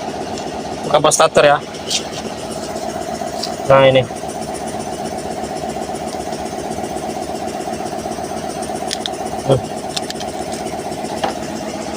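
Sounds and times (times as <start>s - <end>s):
engine idling: 0.0s - 11.9s.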